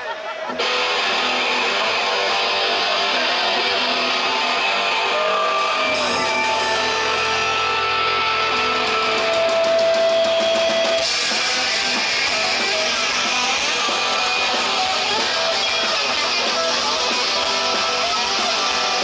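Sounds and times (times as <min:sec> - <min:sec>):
rock band playing live: 0:00.1 - 0:19.0.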